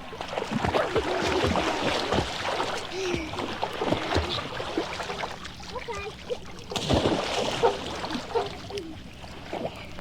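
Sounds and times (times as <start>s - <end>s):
water splashing and lapping: 0.0s - 10.0s.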